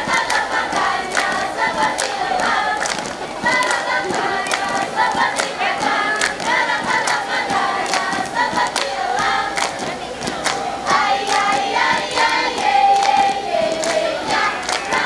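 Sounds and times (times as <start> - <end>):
girls singing in unison: 0.0 - 15.0
hand claps: 0.0 - 15.0.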